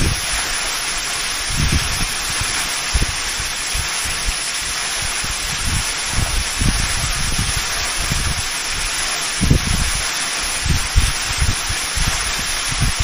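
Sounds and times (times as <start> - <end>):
wind buffeting microphone: 0.0 - 0.4, 1.4 - 4.4, 5.1 - 13.0
waterfall rushing: 0.0 - 13.0.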